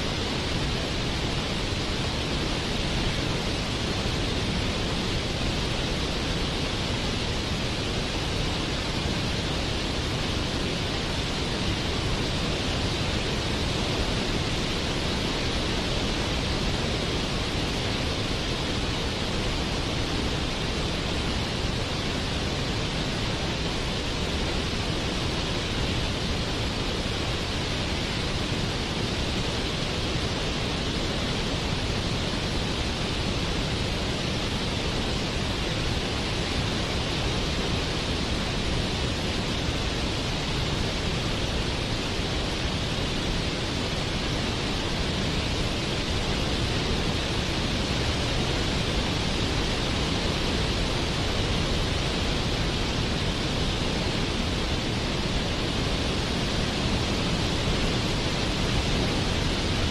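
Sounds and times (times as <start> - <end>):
waterfall splashing: 0.0 - 59.9.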